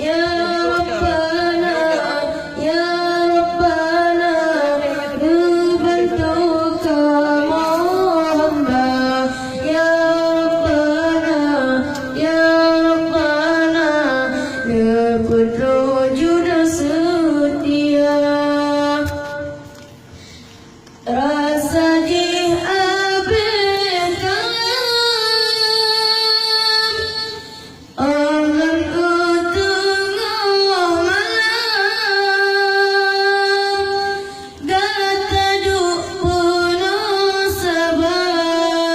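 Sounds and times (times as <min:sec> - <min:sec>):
woman singing: 0:00.0 - 0:19.6, 0:21.1 - 0:38.9.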